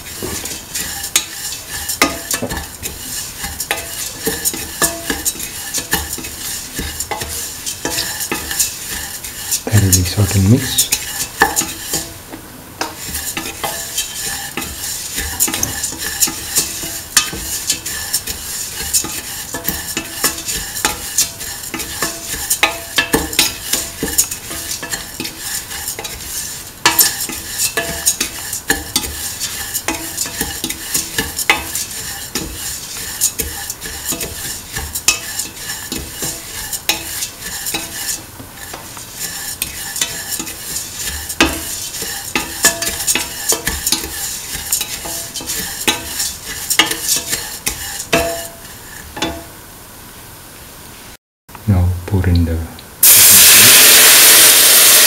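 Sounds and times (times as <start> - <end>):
spatula scraping steel pan: 0.0 - 12.2, 12.8 - 49.4
sizzling: 0.0 - 51.2, 53.0 - 55.0.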